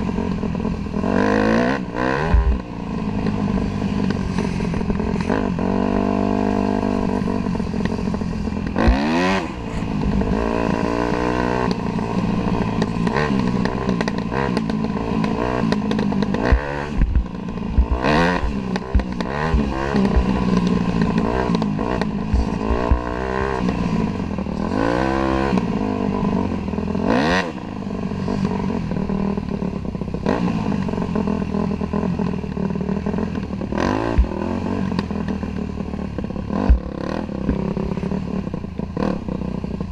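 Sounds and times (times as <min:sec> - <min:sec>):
dirt bike engine revving: 0:00.0 - 0:29.5, 0:30.1 - 0:39.9.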